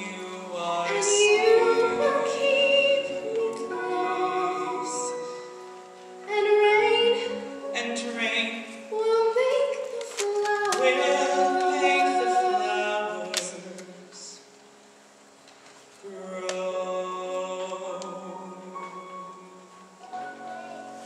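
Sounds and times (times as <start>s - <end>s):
woman and man singing duet: 0.0s - 14.5s, 16.0s - 19.6s
backing music: 0.0s - 21.0s.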